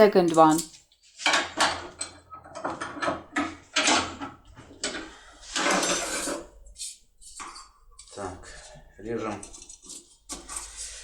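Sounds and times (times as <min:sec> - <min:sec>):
small metal clicks and scrapes: 0:00.3 - 0:08.3, 0:09.0 - 0:11.0.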